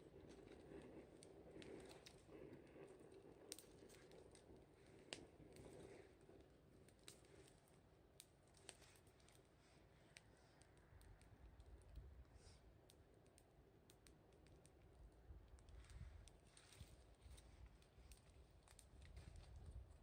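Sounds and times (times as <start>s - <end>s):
faint wood fire crackling: 0.0s - 20.0s.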